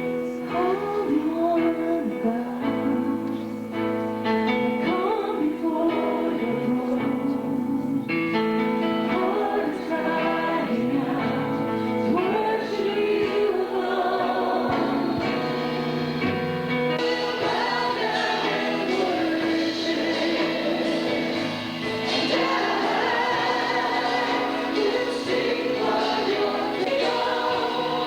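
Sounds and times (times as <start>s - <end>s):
gospel choir singing with instruments: 0.0s - 28.0s.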